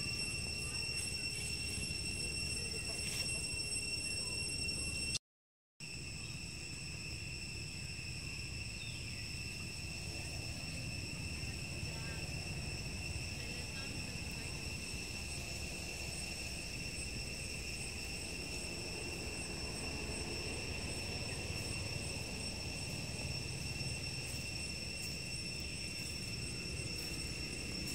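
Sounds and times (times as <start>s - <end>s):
shrill insect chorus: 0.0s - 5.2s, 5.8s - 27.9s.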